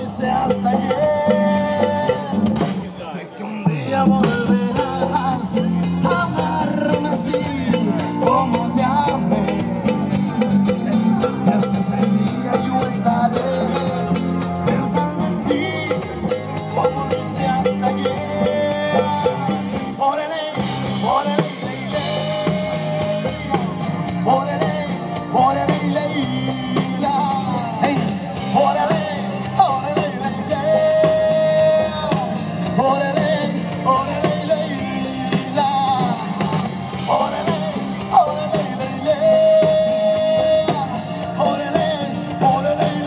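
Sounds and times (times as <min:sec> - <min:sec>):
bass guitar: 0:00.0 - 0:43.0
congas: 0:00.0 - 0:43.0
drum kit: 0:00.0 - 0:43.0
guitar: 0:00.0 - 0:43.0
live latin band music: 0:00.0 - 0:43.0.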